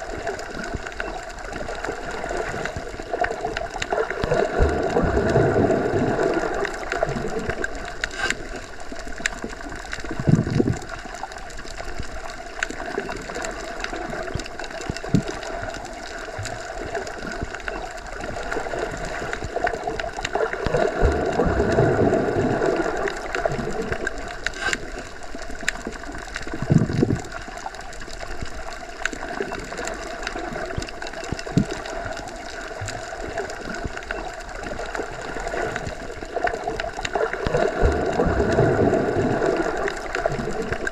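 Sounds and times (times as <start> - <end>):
faint underwater clicks: 0.0 - 40.9
low water surges: 0.0 - 40.9
underwater water noise: 0.0 - 40.9.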